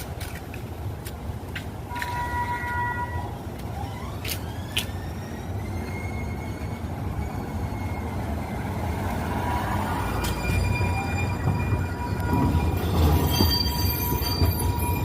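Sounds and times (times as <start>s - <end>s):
light rail train rumble: 0.0s - 15.0s
train motor whine: 1.9s - 15.0s.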